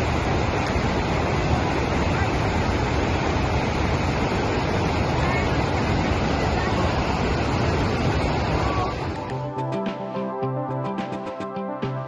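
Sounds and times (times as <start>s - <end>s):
rushing white water: 0.0s - 12.0s.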